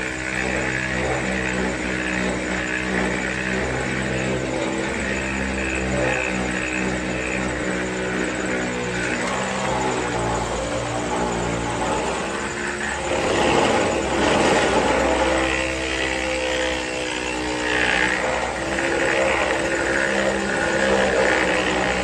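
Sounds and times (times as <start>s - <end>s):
power sander motor: 0.0s - 22.0s
rasping sanding on metal: 0.0s - 22.0s.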